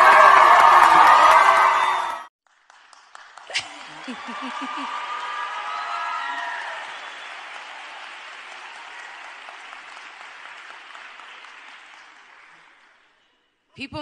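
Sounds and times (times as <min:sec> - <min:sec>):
audience applauding: 0:00.0 - 0:13.3.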